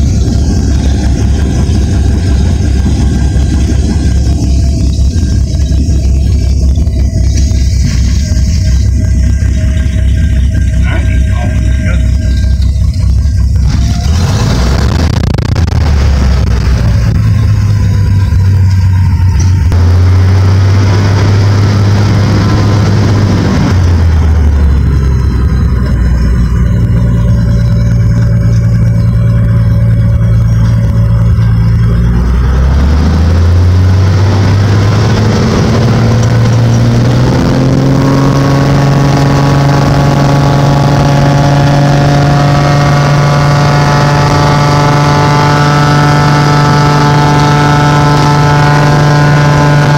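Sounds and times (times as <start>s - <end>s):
propeller plane engine: 0.0s - 49.9s.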